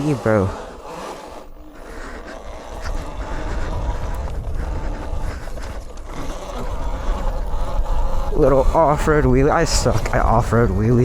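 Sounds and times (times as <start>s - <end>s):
dirt bike engine revving: 0.0s - 11.0s
wind noise on microphone: 1.5s - 11.0s.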